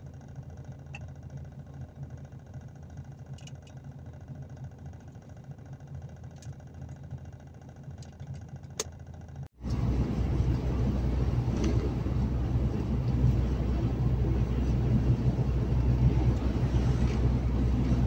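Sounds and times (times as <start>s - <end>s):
truck engine and road noise: 0.0s - 18.0s.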